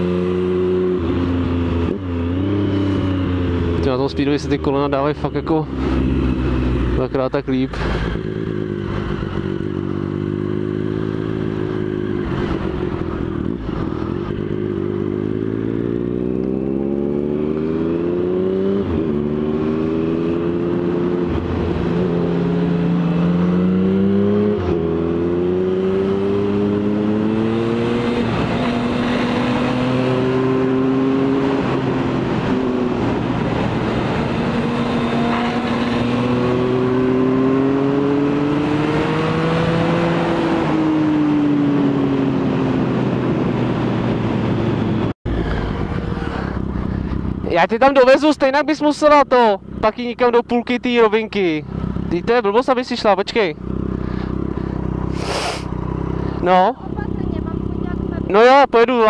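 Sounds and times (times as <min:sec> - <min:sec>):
motorcycle engine revving through gears: 0:00.0 - 0:59.0.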